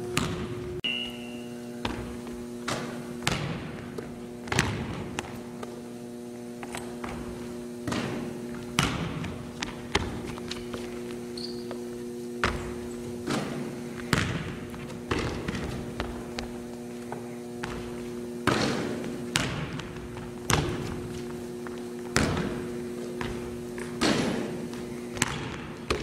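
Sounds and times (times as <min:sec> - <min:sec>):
steady low hum: 0:00.0 - 0:26.0
basketball bouncing on hardwood floor: 0:00.2 - 0:00.6, 0:01.8 - 0:05.4, 0:07.0 - 0:16.6, 0:17.6 - 0:26.0.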